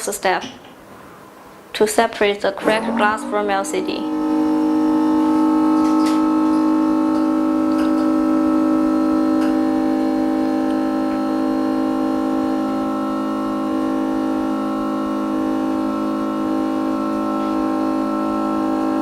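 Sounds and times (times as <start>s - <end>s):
organ-like synthesizer chord: 2.6s - 19.0s.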